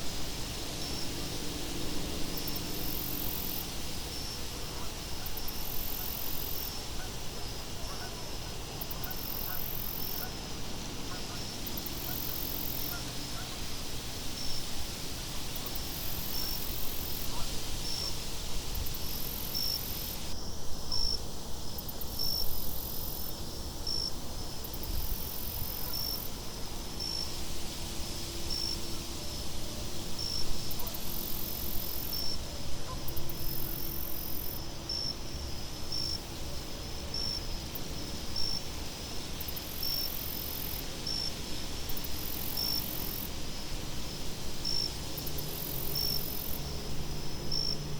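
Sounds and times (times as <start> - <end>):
crickets chirping: 0.0 - 47.9
low steady wind: 0.0 - 47.9
insect buzz: 2.4 - 14.6, 15.6 - 32.4, 33.1 - 36.4, 37.1 - 47.9.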